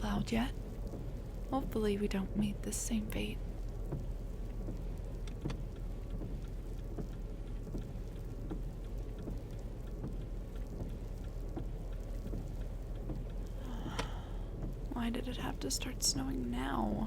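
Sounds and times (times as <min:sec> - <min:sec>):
engine and road rumble: 0:00.0 - 0:17.0
rain ticking on car: 0:00.0 - 0:17.0.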